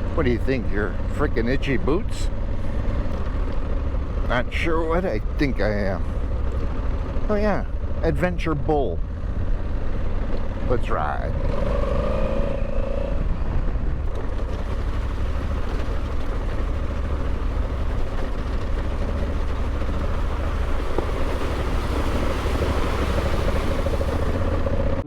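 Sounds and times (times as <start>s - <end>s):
motorcycle engine rumble: 0.0s - 25.0s
wind and road noise: 0.0s - 25.0s.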